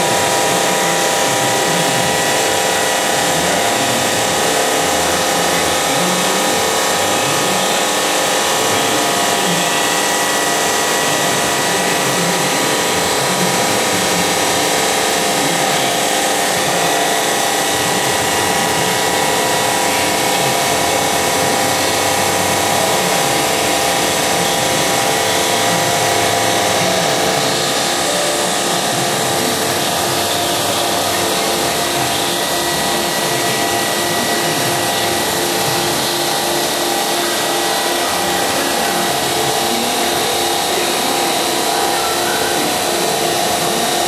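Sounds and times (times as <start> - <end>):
stone saw cutting whine: 0.0 - 44.0.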